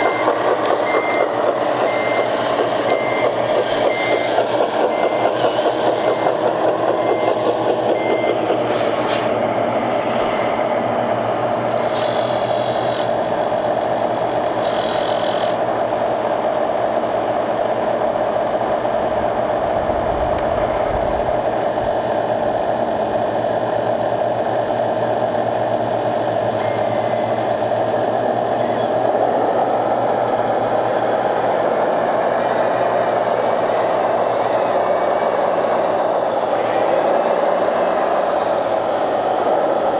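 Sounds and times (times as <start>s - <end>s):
reversing alarm beeps: 0.0s - 17.2s, 25.1s - 39.9s
electric motors whirring: 0.0s - 39.9s.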